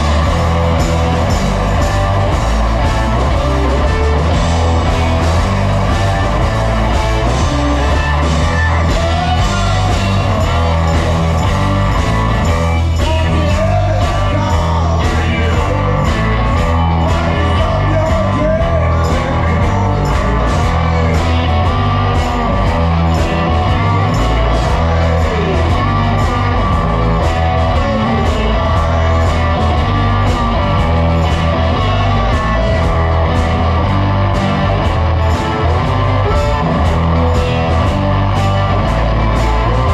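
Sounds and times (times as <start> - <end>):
drums: 0.0 - 39.9
electric bass: 0.0 - 39.9
electric guitar: 0.0 - 39.9
person singing: 0.0 - 39.9.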